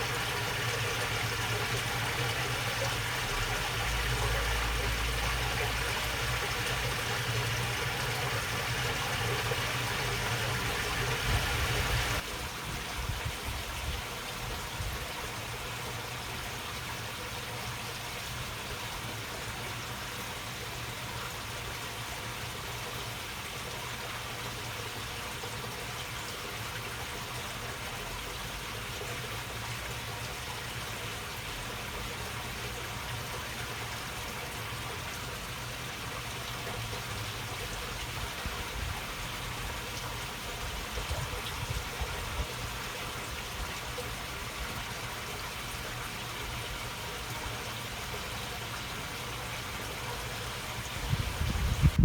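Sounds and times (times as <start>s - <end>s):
water trickling along a channel: 0.0s - 52.0s.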